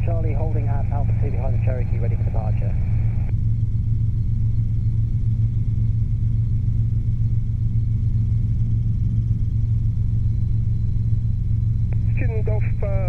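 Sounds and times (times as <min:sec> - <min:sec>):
helicopter engine and rotors drone: 0:00.0 - 0:13.0.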